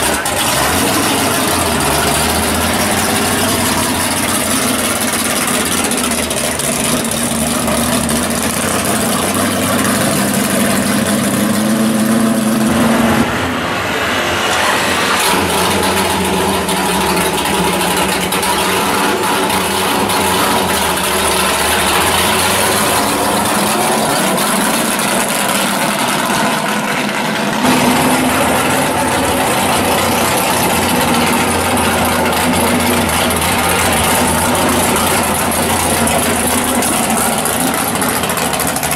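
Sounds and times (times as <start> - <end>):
race car engines idling loudly: 0.0 - 38.9.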